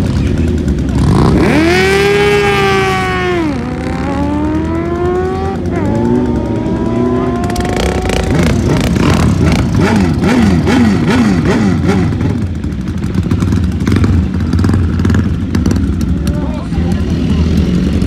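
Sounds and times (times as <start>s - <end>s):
motorcycle engine accelerating: 0.0s - 18.0s
motorcycle engine revving with crackles: 0.0s - 18.0s.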